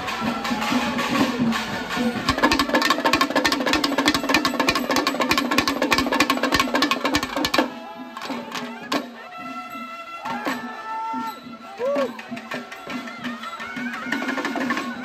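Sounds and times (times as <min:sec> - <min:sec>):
drums playing fast rhythm: 0:00.0 - 0:15.0
hand cymbals: 0:00.0 - 0:15.0.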